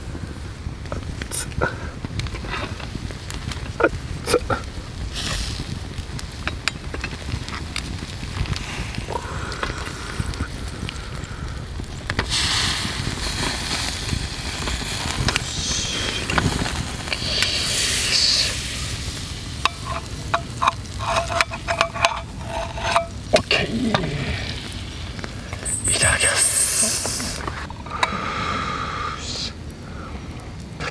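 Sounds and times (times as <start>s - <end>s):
fire crackling: 0.0s - 30.9s
seafood sizzling on a grill: 0.0s - 30.9s
butter sauce bubbling: 0.8s - 25.9s.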